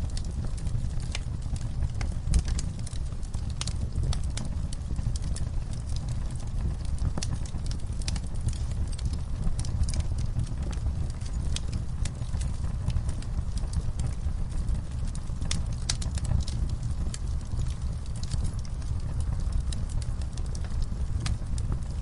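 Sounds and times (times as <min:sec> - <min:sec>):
campfire crackling and popping: 0:00.0 - 0:22.0
low rumble of burning fire: 0:00.0 - 0:22.0.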